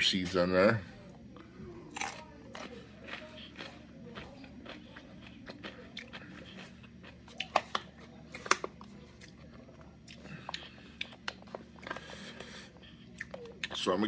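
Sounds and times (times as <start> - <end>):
chewing crunchy pickles: 1.1 - 14.0.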